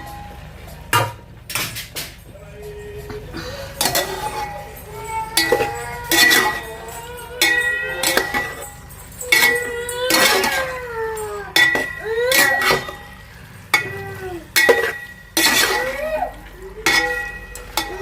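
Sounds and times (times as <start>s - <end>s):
sharp metallic clinks: 2.2s - 18.0s.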